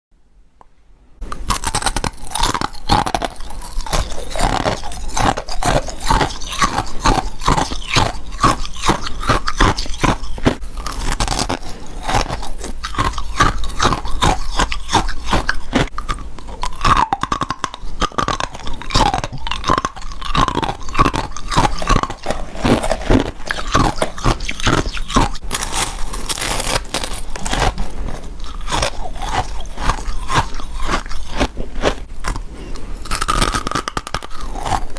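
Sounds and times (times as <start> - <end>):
chewing crunchy frost: 1.2 - 34.9.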